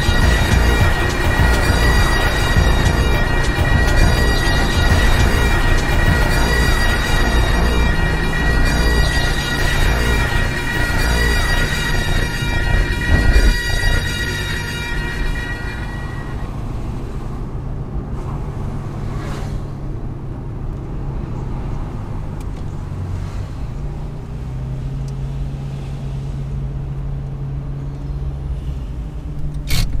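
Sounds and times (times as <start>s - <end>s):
car engine droning: 0.0s - 30.0s
tyre and road noise: 0.0s - 30.0s.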